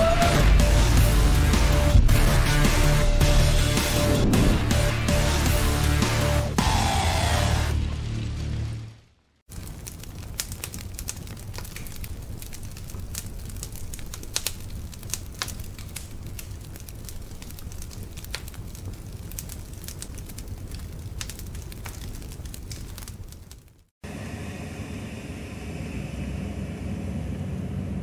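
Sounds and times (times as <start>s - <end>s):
fire crackling and popping: 0.0s - 24.0s
low rush of fire: 0.0s - 28.0s.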